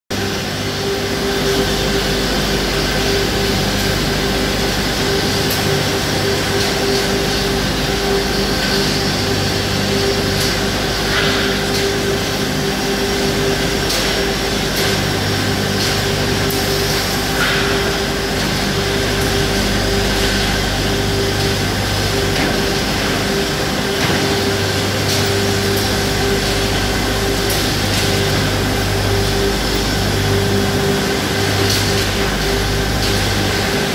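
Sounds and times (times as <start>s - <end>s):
loud machine drone: 0.1s - 33.9s.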